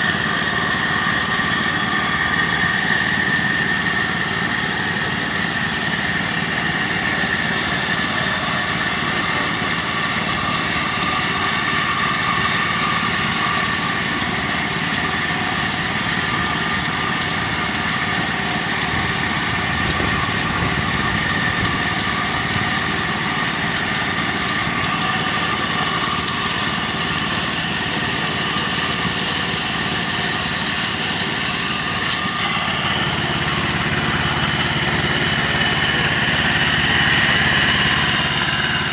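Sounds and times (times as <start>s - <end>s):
high whining tones: 0.0s - 38.9s
small engine running: 0.0s - 38.9s.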